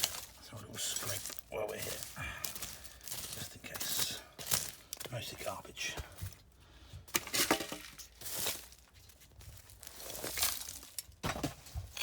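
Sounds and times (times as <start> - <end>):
scraping through soil and rubble: 0.0 - 12.0.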